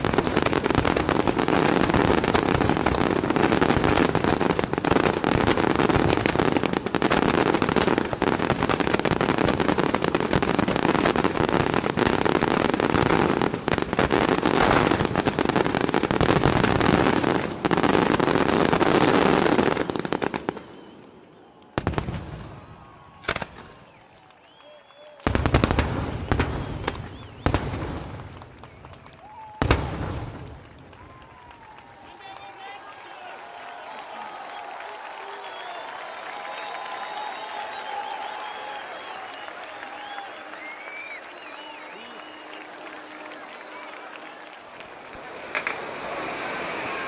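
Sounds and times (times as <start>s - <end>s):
fireworks bursts and crackle: 0.0s - 47.0s.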